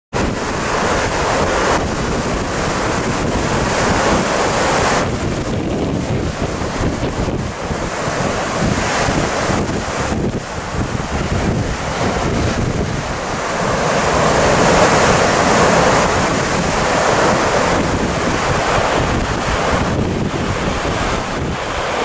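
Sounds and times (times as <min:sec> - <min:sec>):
heavy surf breaking: 0:00.1 - 0:22.0
wind buffeting microphone: 0:00.1 - 0:22.0.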